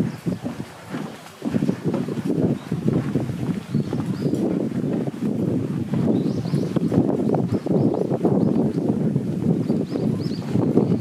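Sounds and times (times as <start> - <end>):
small birds chirping: 0.0 - 4.6, 6.0 - 11.0.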